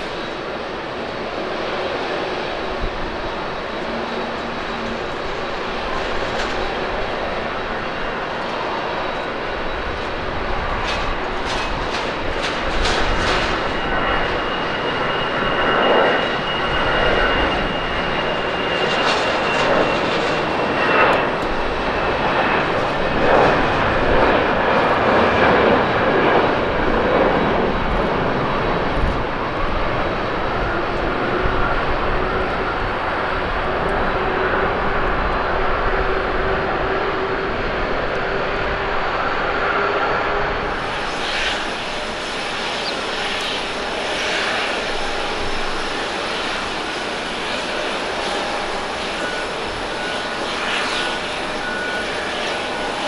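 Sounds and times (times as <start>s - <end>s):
jet engines with fan whine: 0.0s - 53.0s.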